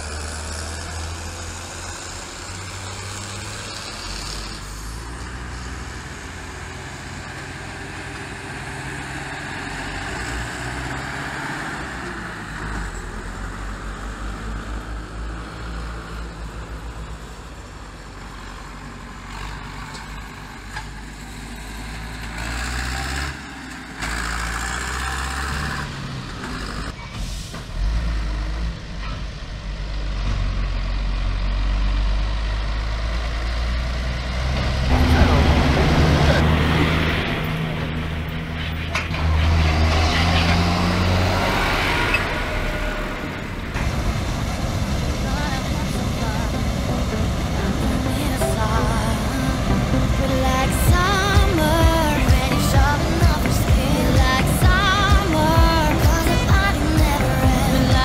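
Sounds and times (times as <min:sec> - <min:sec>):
tractor diesel engines: 0:00.0 - 0:58.0
trailers rumbling over tarmac: 0:00.0 - 0:58.0.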